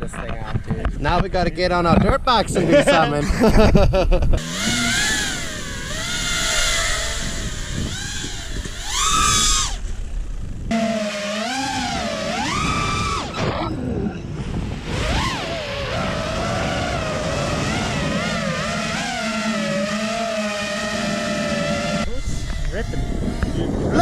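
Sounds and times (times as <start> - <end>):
dirt bike engine revving: 4.4 - 24.0.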